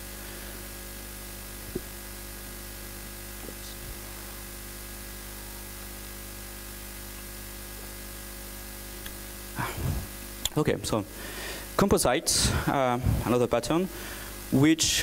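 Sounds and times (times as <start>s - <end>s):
electrical mains hum: 0.0s - 15.0s
microphone hiss: 0.0s - 15.0s.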